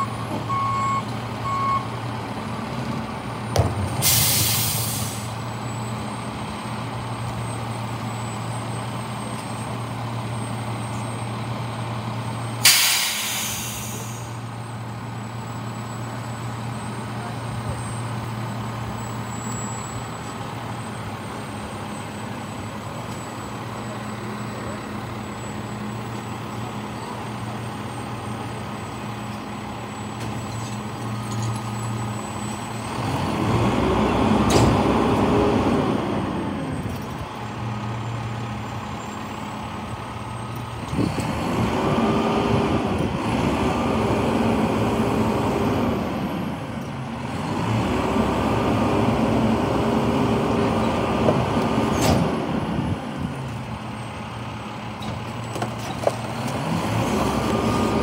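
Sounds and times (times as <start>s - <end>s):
garbage truck engine idling and revving: 0.0s - 58.0s.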